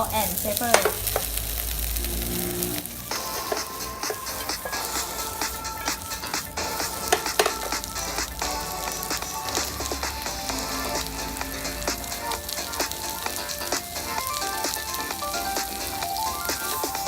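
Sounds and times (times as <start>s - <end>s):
vegetables sizzling in a frying pan: 0.0s - 17.0s
background music: 1.0s - 17.0s.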